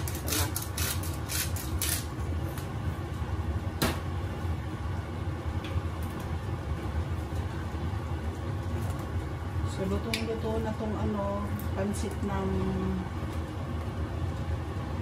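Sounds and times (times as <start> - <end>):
gas cooktop rumble: 0.0 - 15.0.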